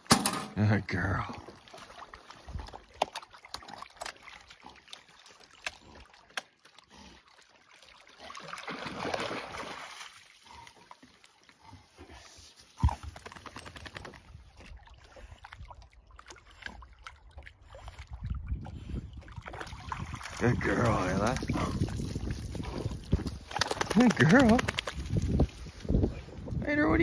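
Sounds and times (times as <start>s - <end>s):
dogs splashing in water: 1.3s - 26.0s.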